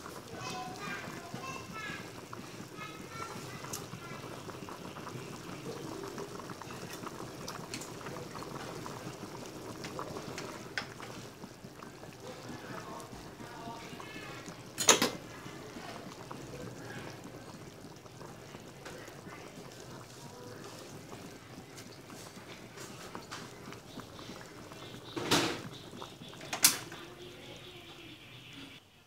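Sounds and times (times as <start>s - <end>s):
soup bubbling in metal pot: 0.0s - 28.9s.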